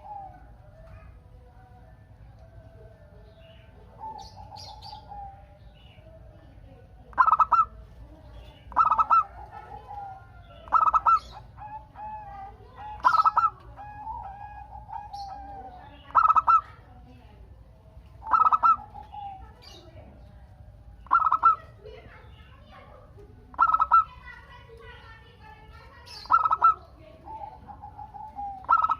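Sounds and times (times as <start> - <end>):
dove cooing: 0.0 - 28.9.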